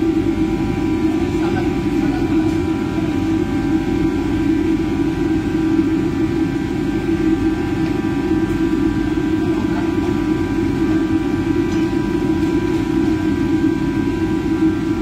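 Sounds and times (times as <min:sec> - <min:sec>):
ventilation fan drone: 0:00.0 - 0:15.0.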